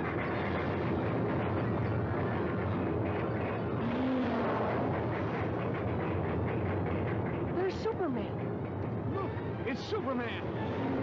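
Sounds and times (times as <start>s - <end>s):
rumbling rushing noise: 0.0s - 11.0s.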